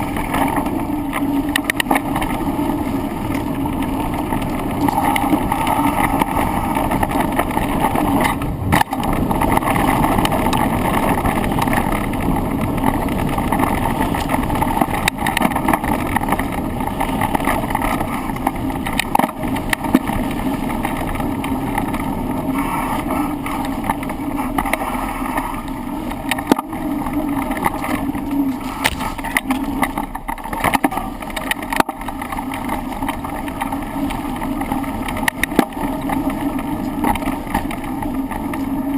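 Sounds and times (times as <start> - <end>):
bike rattling over bumps: 0.0 - 38.9
tyre and wind roar: 0.0 - 38.9.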